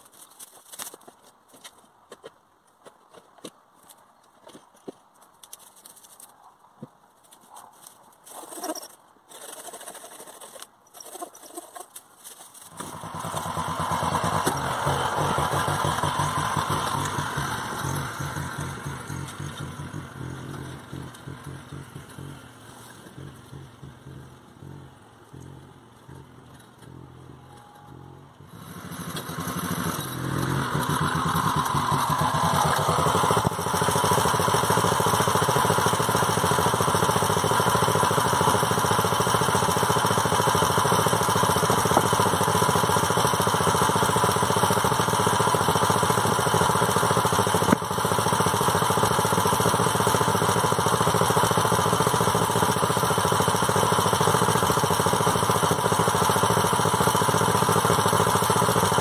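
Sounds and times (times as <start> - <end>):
walking tractor engine running: 0.0 - 59.0.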